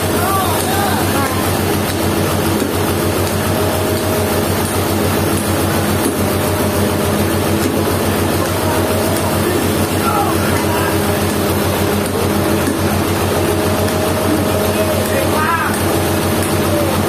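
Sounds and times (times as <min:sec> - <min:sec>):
heavy engine idling: 0:00.0 - 0:17.0.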